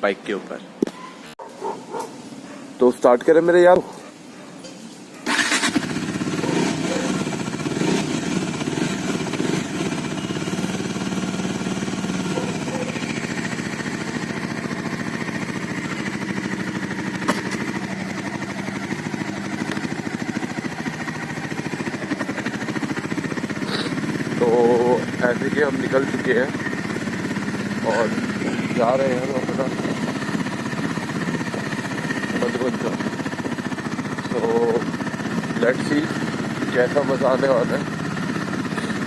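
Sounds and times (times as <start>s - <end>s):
motorcycle engine running: 5.2s - 39.0s.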